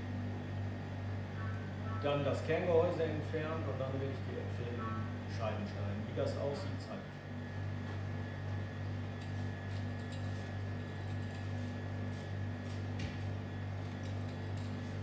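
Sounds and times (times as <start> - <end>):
kitchen equipment hum: 0.0 - 15.0.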